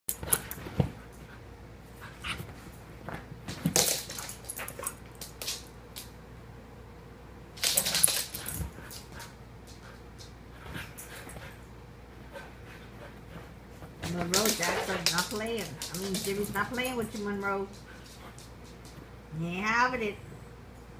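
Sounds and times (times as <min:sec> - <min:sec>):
dogs scuffling: 0:00.1 - 0:06.0, 0:07.6 - 0:19.2.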